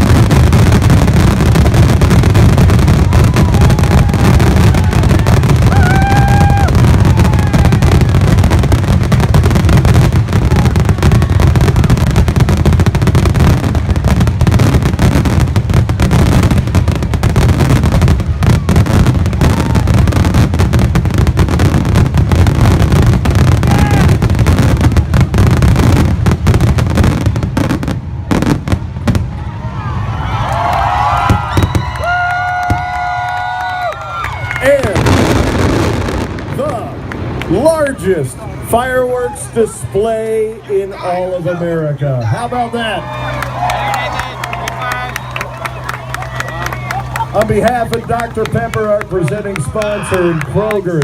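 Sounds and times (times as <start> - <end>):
fireworks booming and crackling: 0.0 - 51.0.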